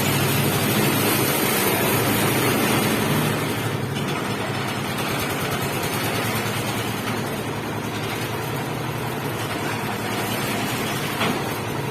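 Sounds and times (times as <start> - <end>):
concrete mixer running: 0.0 - 11.9.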